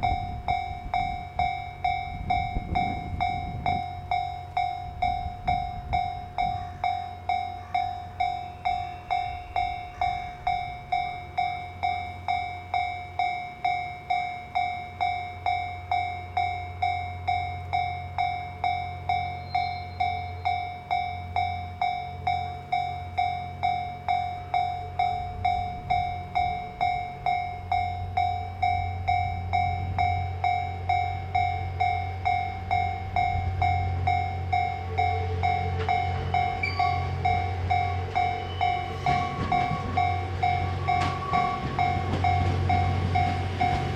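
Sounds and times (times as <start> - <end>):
level crossing warning bell: 0.0 - 43.9
train low rumble: 0.0 - 43.9.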